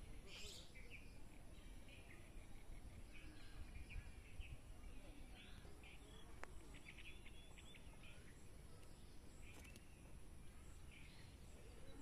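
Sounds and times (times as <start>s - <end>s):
bird chirps and twittering: 0.0s - 12.0s.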